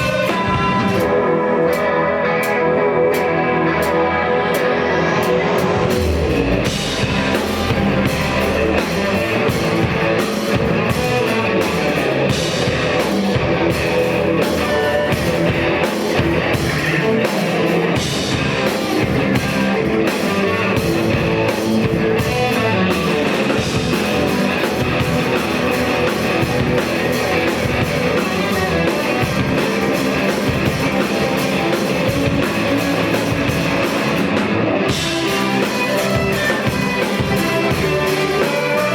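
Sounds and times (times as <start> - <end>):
drum kit with cymbals: 0.0 - 38.9
electric guitar: 0.0 - 38.9.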